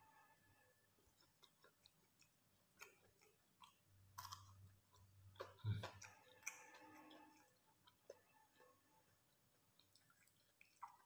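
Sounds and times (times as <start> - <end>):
soft chewing clicks: 0.9 - 11.0.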